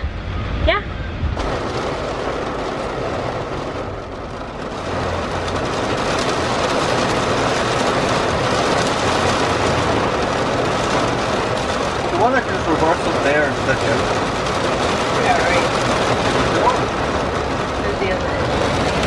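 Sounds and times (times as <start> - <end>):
heavy rain on car roof: 0.0 - 19.0.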